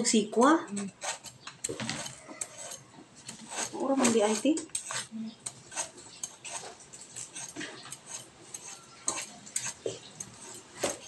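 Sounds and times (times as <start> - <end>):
knife scraping gourd skin: 0.6 - 11.0.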